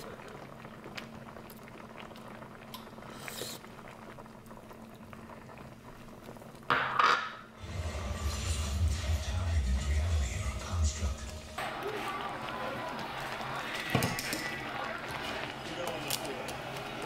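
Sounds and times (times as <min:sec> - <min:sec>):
stew bubbling in a pan: 0:00.0 - 0:09.3, 0:11.2 - 0:17.0.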